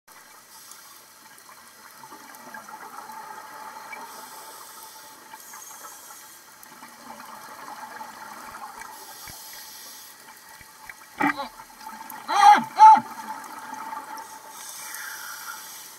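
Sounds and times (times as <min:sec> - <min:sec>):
steady hiss: 0:00.2 - 0:02.1, 0:03.0 - 0:12.2, 0:13.2 - 0:15.9.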